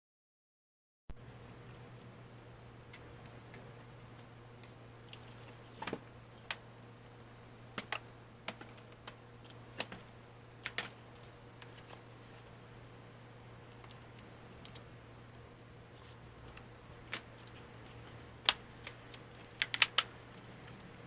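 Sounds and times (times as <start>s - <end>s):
steady low hum: 1.1s - 21.0s.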